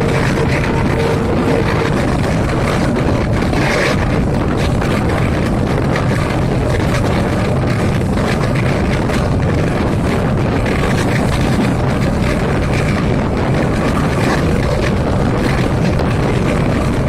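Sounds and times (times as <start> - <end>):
diesel train engine rumbling: 0.0 - 17.0.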